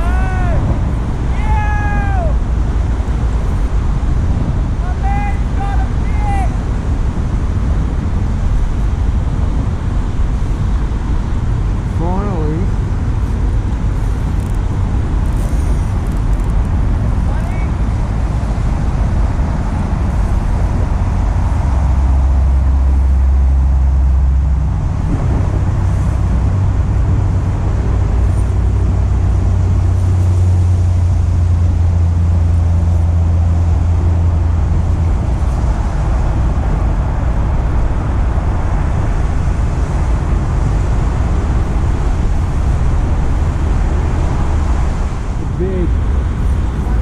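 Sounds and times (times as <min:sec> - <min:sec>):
engine humming: 0:00.0 - 0:47.0.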